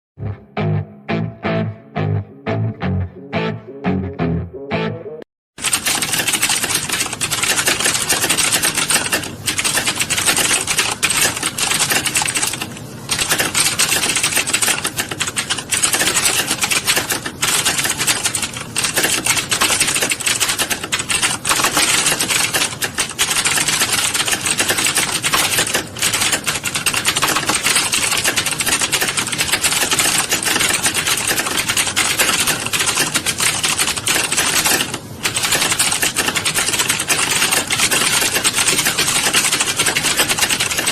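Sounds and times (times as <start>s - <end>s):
fast typing on keyboard: 5.6s - 40.9s.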